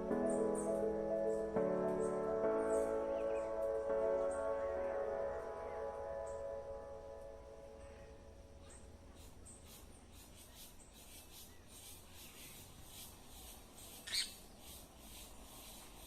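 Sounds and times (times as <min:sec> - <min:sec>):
birds chirping: 0:00.0 - 0:16.0
insects chirping: 0:00.0 - 0:16.0.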